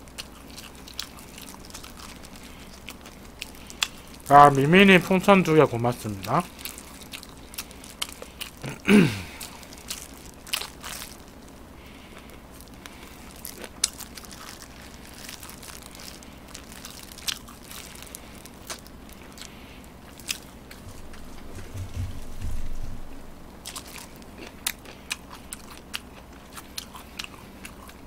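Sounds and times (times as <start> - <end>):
crunchy bites and chewing: 0.0 - 4.7, 6.2 - 20.8, 23.6 - 28.0.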